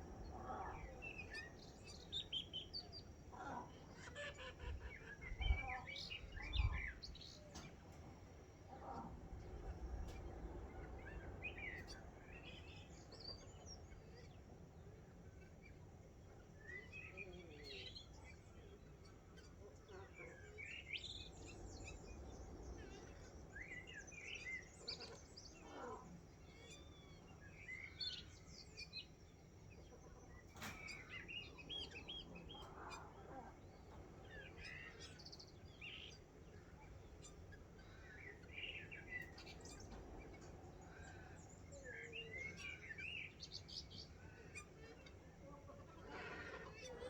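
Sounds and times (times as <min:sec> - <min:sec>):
faint birds chirping and calling: 0:00.0 - 0:47.0.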